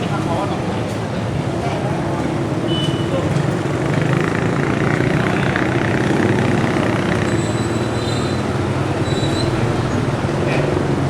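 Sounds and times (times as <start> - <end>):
street traffic: 0.0 - 11.0
vehicle engine running: 0.0 - 11.0.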